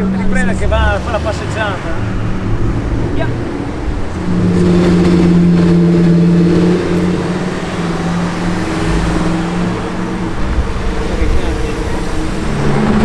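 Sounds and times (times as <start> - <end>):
sports car engine idling: 0.0 - 13.0.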